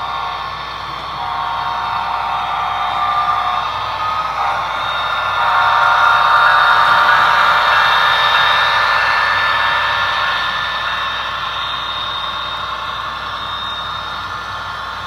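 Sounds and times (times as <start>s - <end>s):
model locomotive engine hum: 0.0s - 15.0s
model train rolling: 0.0s - 15.0s.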